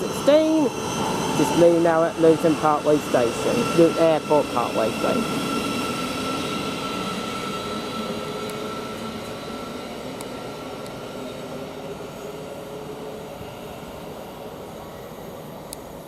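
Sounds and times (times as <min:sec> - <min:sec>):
electric train running with whine: 0:00.0 - 0:16.0.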